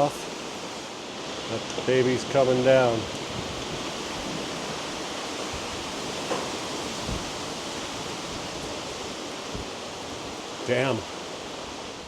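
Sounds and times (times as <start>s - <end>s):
strong wind through trees: 0.0s - 12.0s
wind buffeting microphone: 0.0s - 12.0s.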